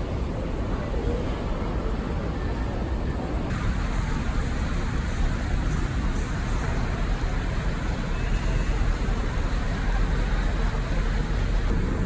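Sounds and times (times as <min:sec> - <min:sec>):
traffic noise: 0:00.8 - 0:12.0.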